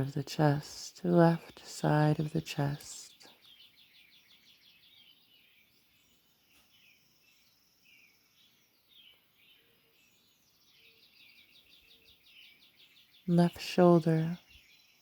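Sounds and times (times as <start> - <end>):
birds chirping and trilling: 1.4 - 15.0.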